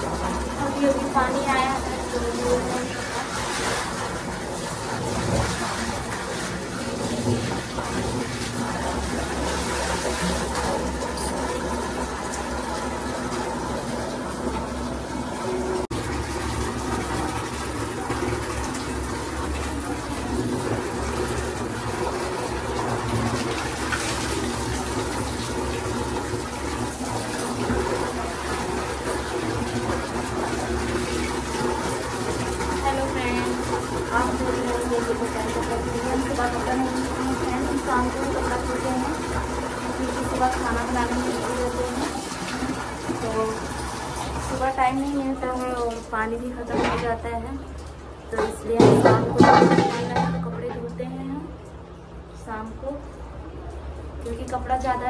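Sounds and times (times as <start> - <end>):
tap water running and splashing: 0.0 - 55.0.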